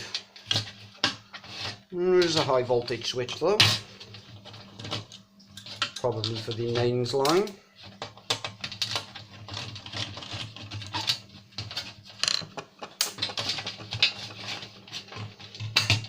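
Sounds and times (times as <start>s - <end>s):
plastic and metal parts rattling: 0.0s - 16.0s.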